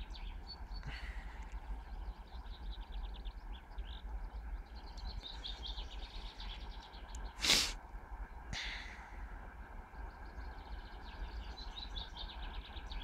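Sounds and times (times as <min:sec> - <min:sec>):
songbirds chirping: 0:00.0 - 0:13.0
wind rumble on microphone: 0:00.0 - 0:13.0.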